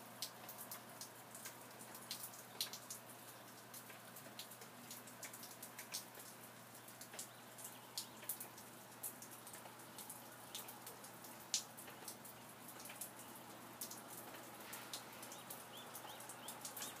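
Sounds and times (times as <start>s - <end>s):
rain falling: 0.0s - 17.0s
single raindrops tapping: 0.2s - 17.0s.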